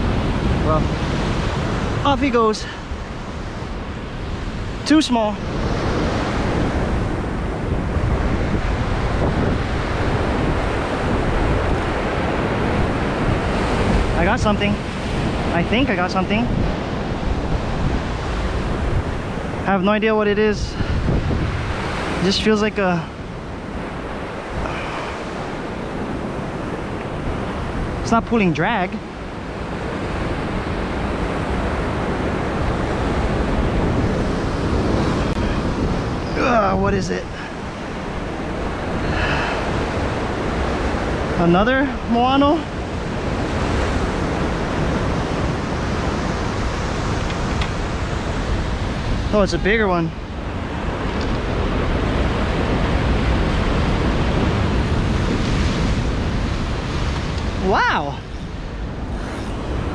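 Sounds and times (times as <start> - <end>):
surf washing over rocks: 0.0 - 59.9
wind buffeting microphone: 0.0 - 59.9.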